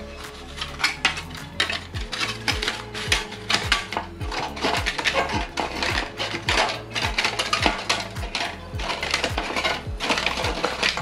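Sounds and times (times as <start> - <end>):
background music with bass beat: 0.0 - 11.0
foil crinkling and rattling: 0.0 - 11.0.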